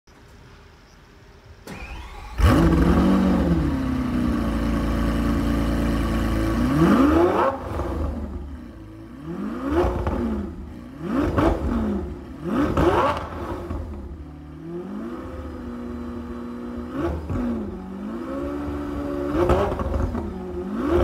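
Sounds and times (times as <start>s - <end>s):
sports car engine starting: 1.6s - 21.0s.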